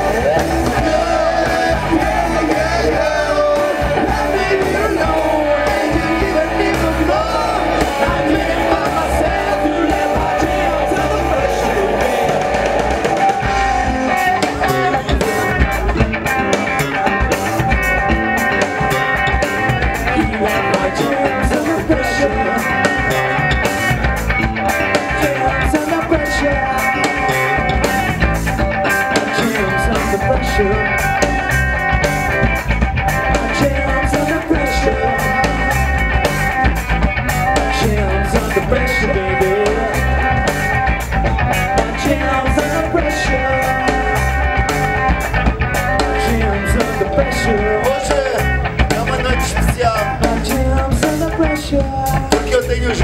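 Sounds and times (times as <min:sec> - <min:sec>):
person singing: 0:00.0 - 0:16.0, 0:18.6 - 0:23.8, 0:24.7 - 0:27.8, 0:29.0 - 0:31.5, 0:33.3 - 0:35.9, 0:37.6 - 0:40.6, 0:41.7 - 0:44.9, 0:45.9 - 0:53.0
bass guitar: 0:00.0 - 0:53.0
drum kit: 0:00.0 - 0:53.0
electric guitar: 0:00.0 - 0:53.0.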